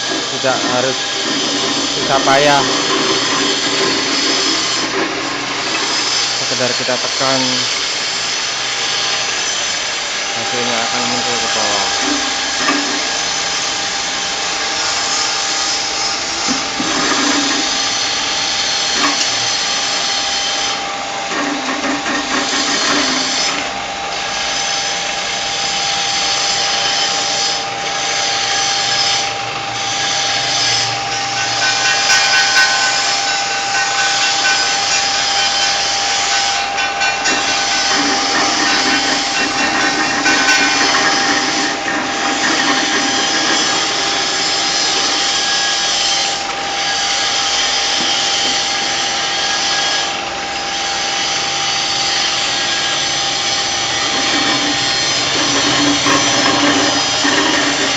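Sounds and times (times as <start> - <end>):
machine motor whine: 0.0 - 57.9.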